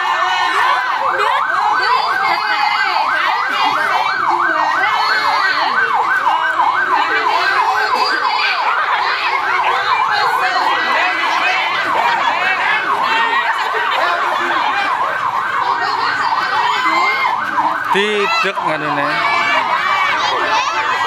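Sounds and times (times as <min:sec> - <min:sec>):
electronic siren yelping: 0:00.0 - 0:21.0.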